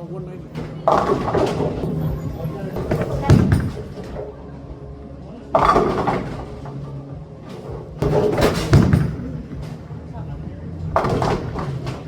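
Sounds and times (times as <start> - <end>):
bowling pins knocking: 0.0 - 4.5, 5.4 - 10.0, 10.8 - 12.0
steady low hum: 0.0 - 12.0.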